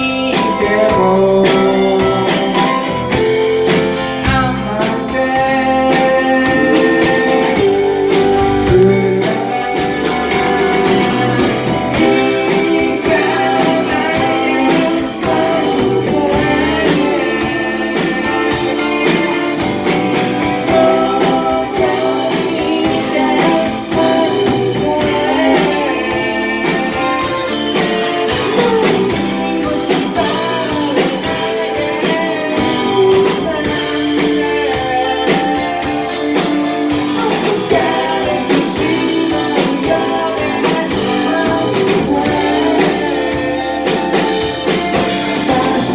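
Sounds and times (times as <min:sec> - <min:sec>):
electric guitar: 0:00.0 - 0:45.9
man singing lead: 0:00.0 - 0:45.9
strummed acoustic guitar: 0:00.0 - 0:45.9.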